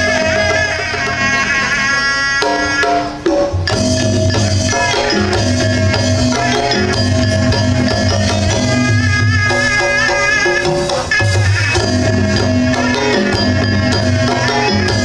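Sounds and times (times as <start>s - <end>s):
drums beating steady rhythm: 0.0s - 15.0s
held melody line: 0.0s - 15.0s.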